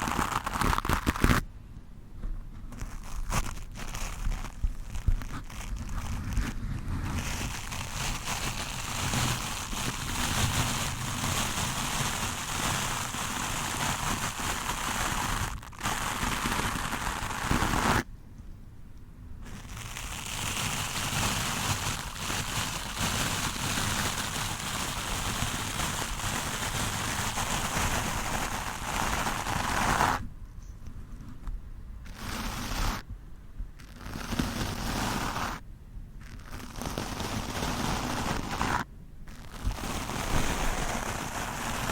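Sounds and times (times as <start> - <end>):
brush scraping a microphone: 0.0 - 1.4, 2.6 - 18.0, 19.4 - 30.2, 30.8 - 33.1, 33.8 - 35.6, 36.2 - 41.9.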